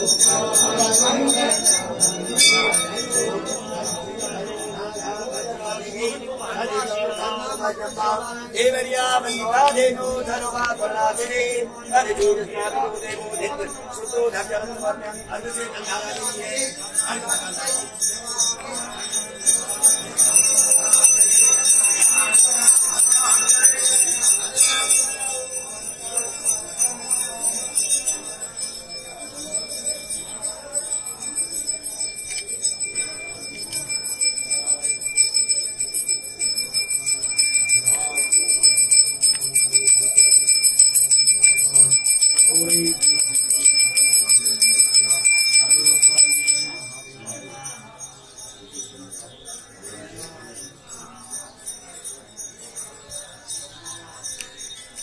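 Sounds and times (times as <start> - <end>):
bells ringing rapidly: 0.0 - 11.3, 12.6 - 55.0.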